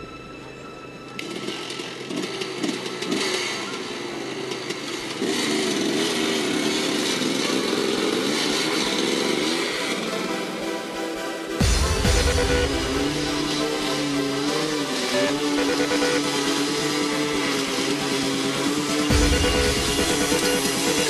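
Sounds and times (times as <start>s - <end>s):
dirt bike engine revving: 1.2s - 21.0s.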